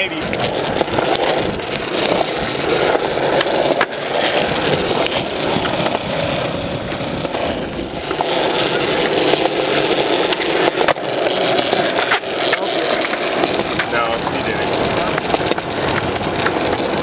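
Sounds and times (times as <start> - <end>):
skateboard wheels rolling on concrete: 0.0 - 17.0.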